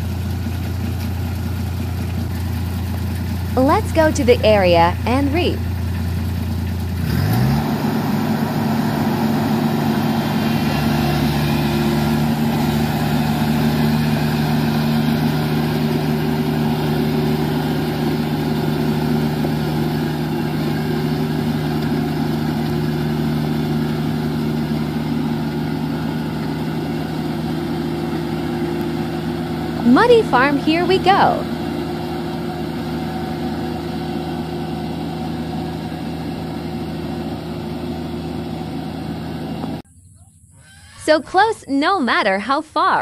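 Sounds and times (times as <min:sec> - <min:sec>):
combine harvester engine revving: 0:00.0 - 0:39.8.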